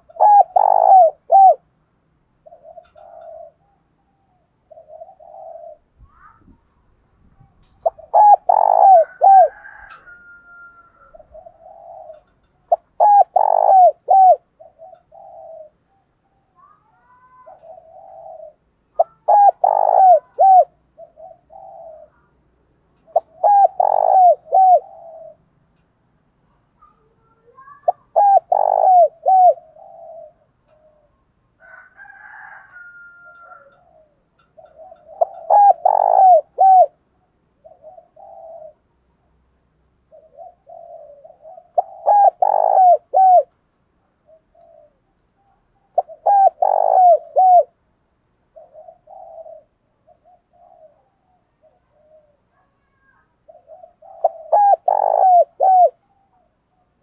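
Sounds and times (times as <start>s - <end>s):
dove cooing: 0.0s - 1.7s, 2.4s - 6.6s, 7.4s - 22.4s, 23.0s - 25.6s, 26.8s - 39.4s, 40.0s - 47.9s, 48.5s - 57.0s.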